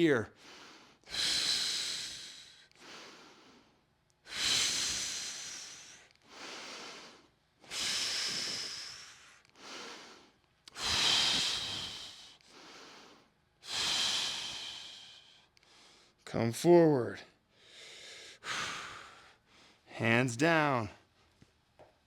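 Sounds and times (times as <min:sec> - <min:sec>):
person breathing heavily: 0:00.3 - 0:16.2, 0:17.5 - 0:19.9.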